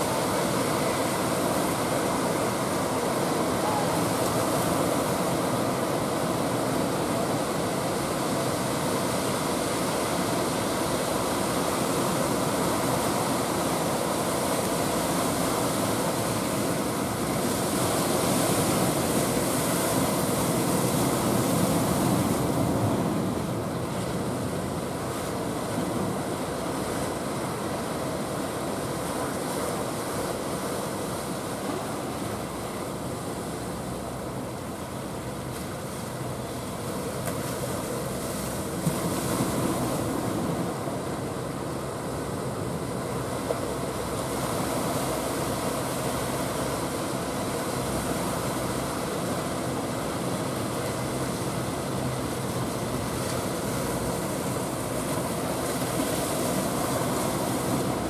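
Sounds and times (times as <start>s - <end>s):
rough sea surf: 0.0s - 58.0s.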